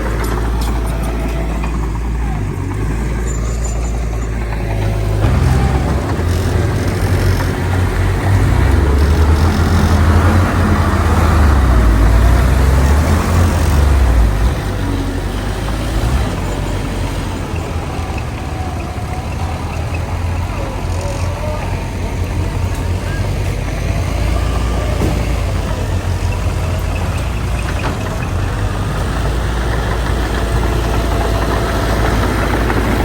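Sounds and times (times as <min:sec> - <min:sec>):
heavy diesel engine rumbling: 0:00.0 - 0:33.0.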